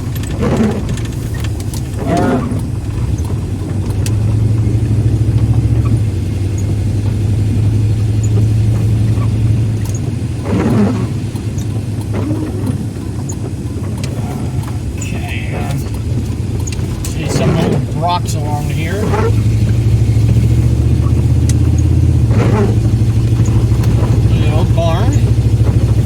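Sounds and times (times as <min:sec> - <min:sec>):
car interior engine and road drone: 0:00.0 - 0:26.0.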